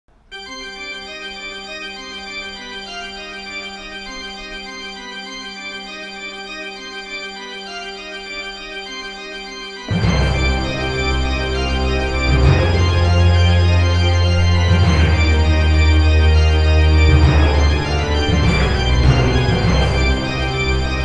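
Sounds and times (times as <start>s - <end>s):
organ playing held chords: 0.3s - 21.0s.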